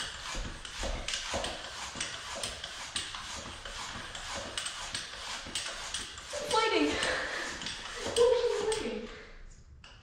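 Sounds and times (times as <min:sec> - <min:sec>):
bicycle pump hissing: 0:00.0 - 0:09.1.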